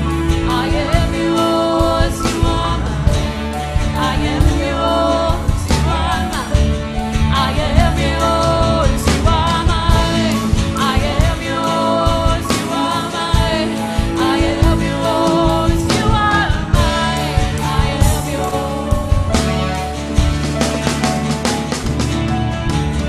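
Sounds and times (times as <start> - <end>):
person singing: 0.0 - 20.0
steady drum beat: 0.0 - 23.0
worship band playing gospel song: 0.0 - 23.0.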